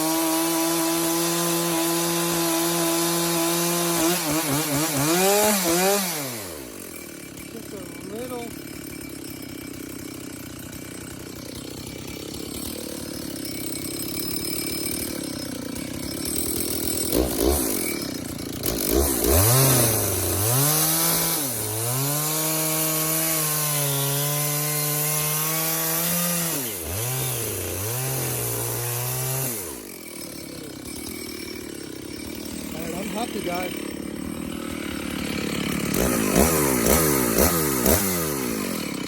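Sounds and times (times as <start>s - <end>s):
chainsaw cutting wood: 0.0s - 39.0s.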